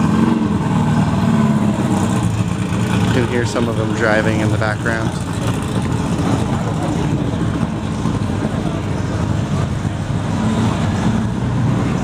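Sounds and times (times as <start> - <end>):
car engines humming: 0.0 - 12.0.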